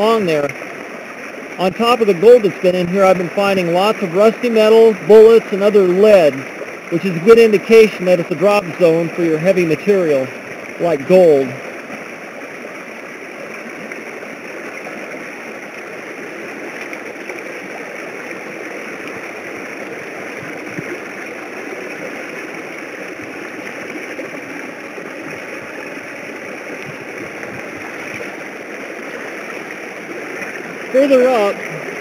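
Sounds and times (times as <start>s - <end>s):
creek water rushing underwater: 0.0s - 32.0s.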